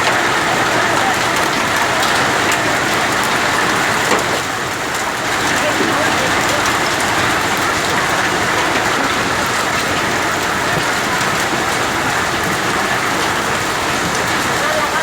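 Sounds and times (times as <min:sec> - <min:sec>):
drops ticking on hard surfaces: 0:00.0 - 0:14.6
heavy rain hissing: 0:00.0 - 0:15.0.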